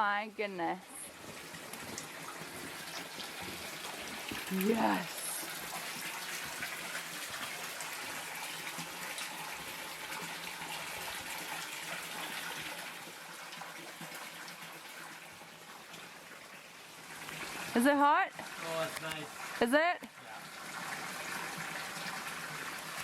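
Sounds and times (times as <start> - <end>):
water pouring into a pool: 0.8 - 23.0.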